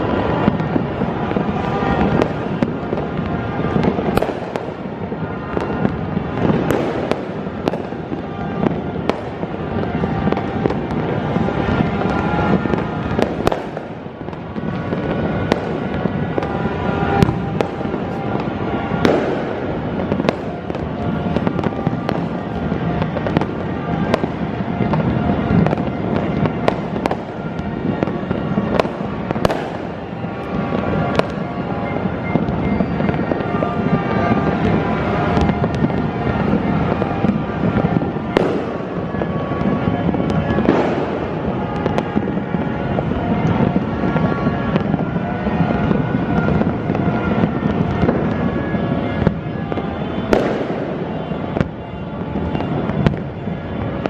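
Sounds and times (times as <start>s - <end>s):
firecrackers crackling: 0.0s - 54.0s
fireworks banging: 0.0s - 54.0s.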